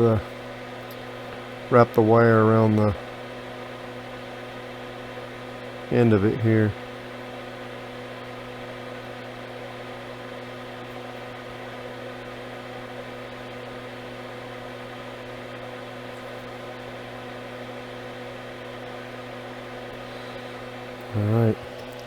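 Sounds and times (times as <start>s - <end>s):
electrical hum: 0.0s - 22.0s
faint fan whir: 0.0s - 22.0s.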